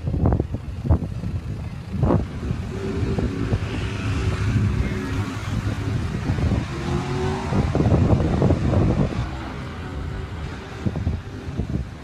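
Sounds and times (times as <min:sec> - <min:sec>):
vehicle engine idling: 0:00.0 - 0:12.0
wind noise on microphone: 0:00.0 - 0:12.0.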